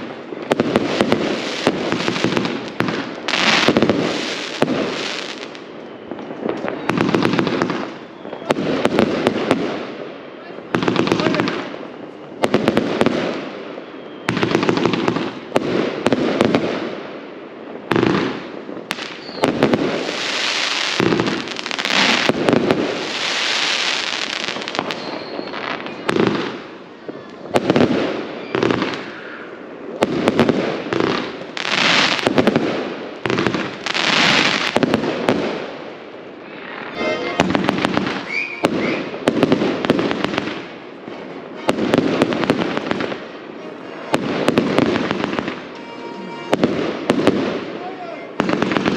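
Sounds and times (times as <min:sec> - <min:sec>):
fireworks bangs and crackle: 0:00.0 - 0:48.9.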